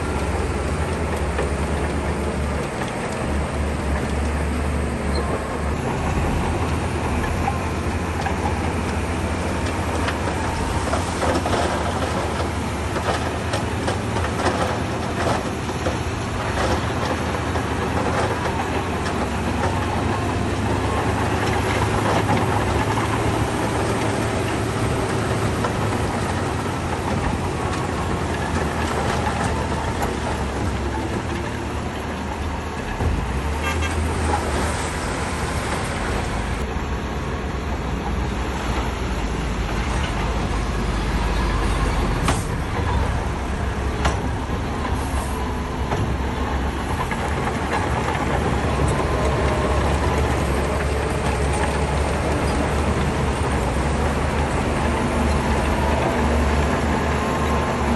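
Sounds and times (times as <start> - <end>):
bulldozer diesel engine droning: 0.0 - 57.9.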